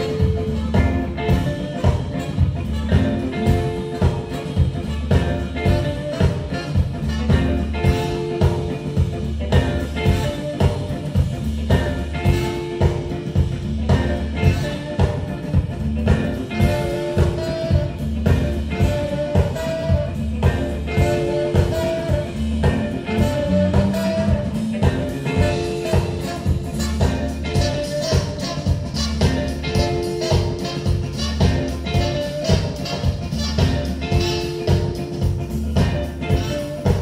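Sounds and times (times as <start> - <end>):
live band playing jazzy tune: 0.0 - 37.0
steady drum beat: 0.0 - 37.0.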